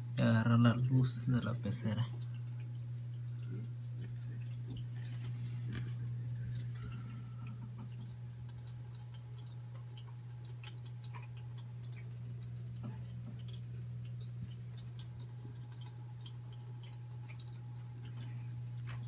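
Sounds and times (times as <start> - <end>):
filter low hum: 0.0 - 19.0
water trickling and dripping: 0.0 - 19.0.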